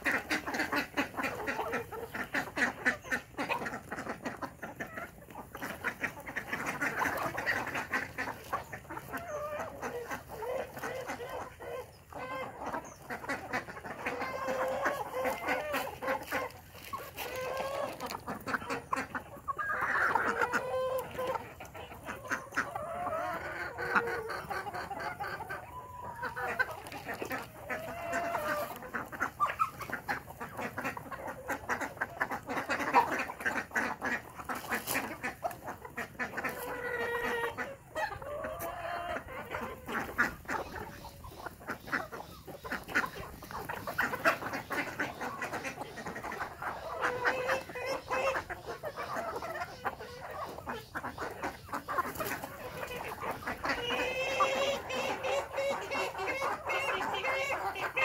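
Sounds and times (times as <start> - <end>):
ducks quacking: 0.0 - 58.0
hens clucking: 0.0 - 58.0.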